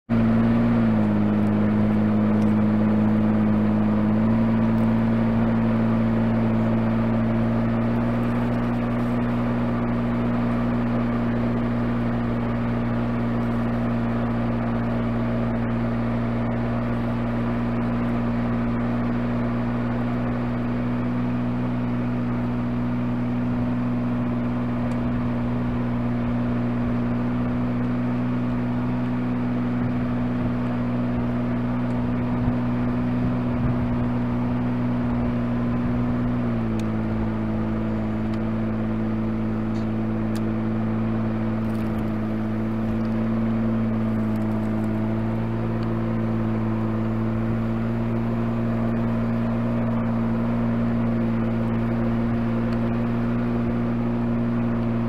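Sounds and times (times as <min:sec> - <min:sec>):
vehicle engine running low revs: 0:00.1 - 0:55.0.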